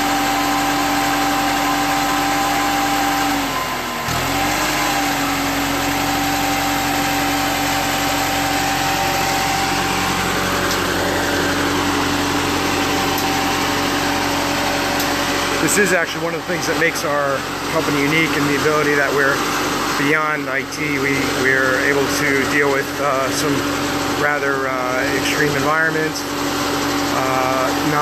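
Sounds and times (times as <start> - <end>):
boom lift engine running: 0.0 - 28.0.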